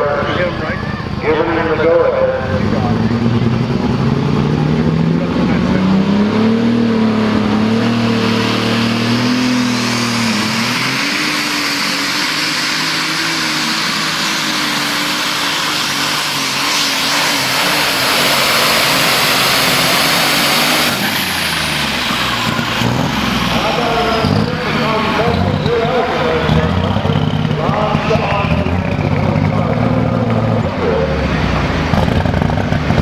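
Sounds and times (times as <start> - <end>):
tractor engine at full throttle: 0.0 - 33.0.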